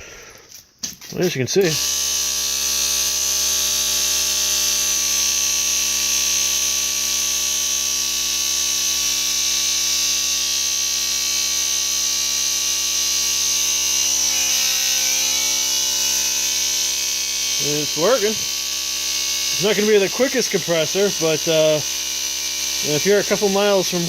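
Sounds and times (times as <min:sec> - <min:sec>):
air compressor running: 0:00.0 - 0:24.0.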